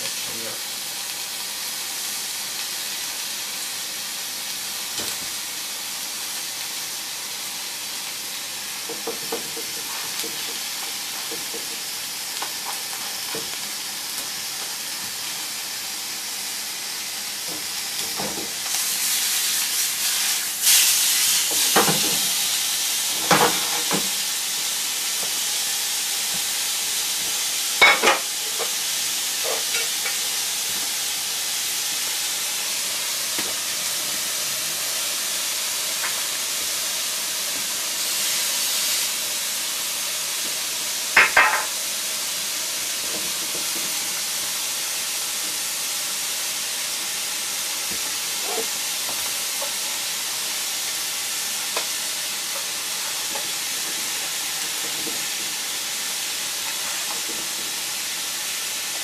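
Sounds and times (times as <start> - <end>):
food sizzling in a skillet: 0.0 - 59.0.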